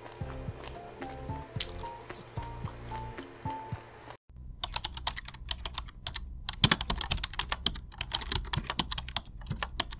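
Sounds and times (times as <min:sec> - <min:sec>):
low steady hum: 0:00.0 - 0:09.9.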